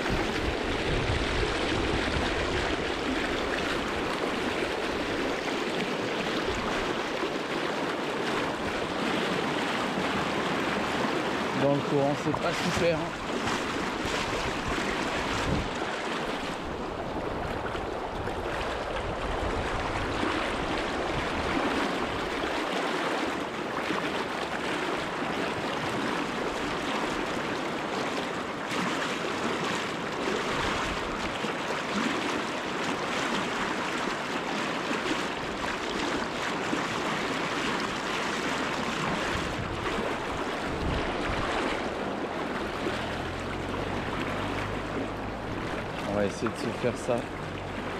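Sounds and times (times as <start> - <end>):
river current rushing: 0.0 - 47.9.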